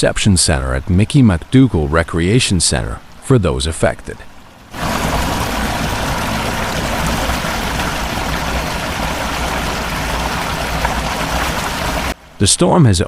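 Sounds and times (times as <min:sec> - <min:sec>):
floodwater rushing: 0:00.4 - 0:12.4.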